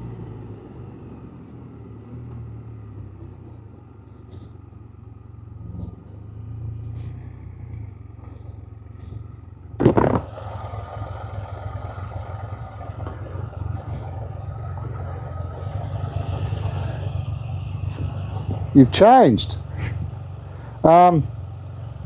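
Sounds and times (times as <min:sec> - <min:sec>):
engine rumbling: 0:00.0 - 0:22.0
road and wind noise: 0:00.0 - 0:22.0.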